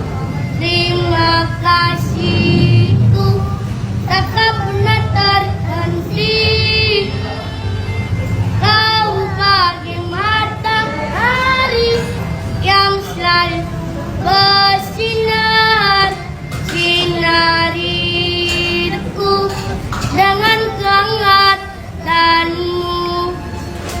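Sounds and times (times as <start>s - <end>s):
child singing: 0.3s - 24.0s.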